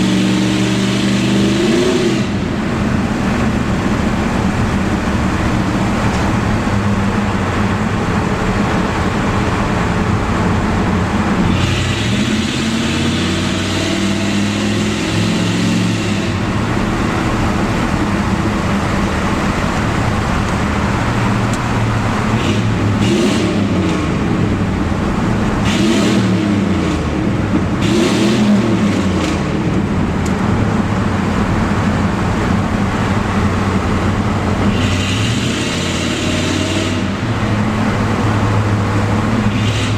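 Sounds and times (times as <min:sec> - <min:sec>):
car exhaust echoing in tunnel: 0:00.0 - 0:39.9.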